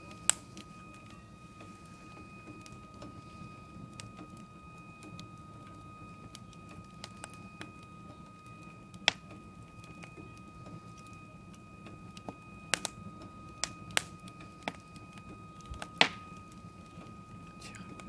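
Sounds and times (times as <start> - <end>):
faint high whine: 0.0 - 18.0
wood fire crackling and popping: 0.0 - 18.0.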